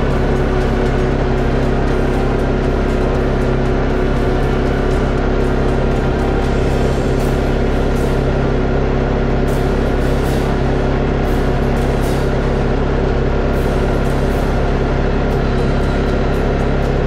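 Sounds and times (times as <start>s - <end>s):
atv engine droning: 0.0s - 17.0s.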